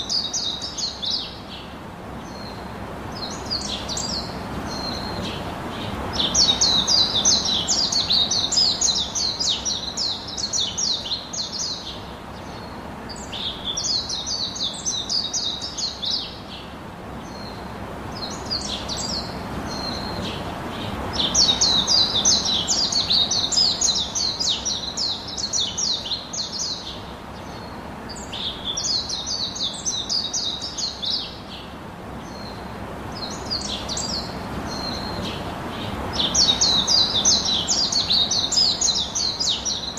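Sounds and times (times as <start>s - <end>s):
bird chirping: 3.2s - 17.6s, 18.2s - 39.9s.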